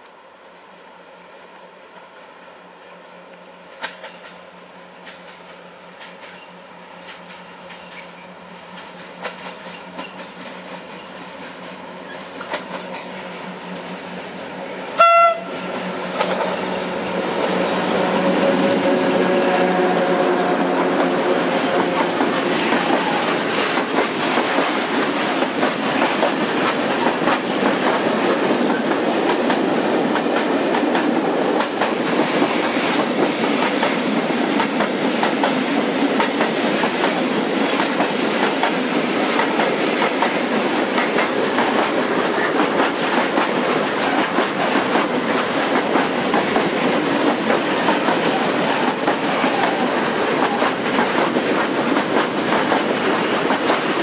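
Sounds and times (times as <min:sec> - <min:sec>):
loud train rumble: 0:00.5 - 0:54.0
train wheels clattering: 0:05.0 - 0:54.0.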